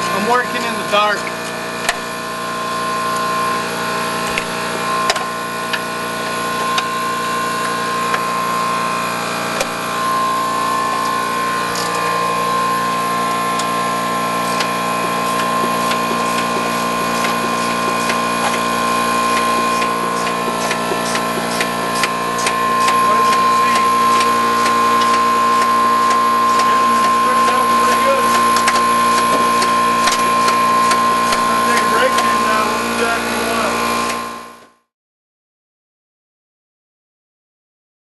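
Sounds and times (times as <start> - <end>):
deeper hum: 0.0 - 34.6
machine high-pitched whine: 0.0 - 34.8.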